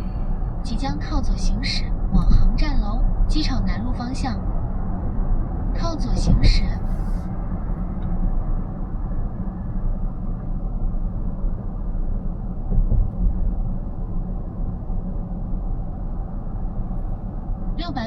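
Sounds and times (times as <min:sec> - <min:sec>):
car road and tyre noise: 0:00.0 - 0:18.0.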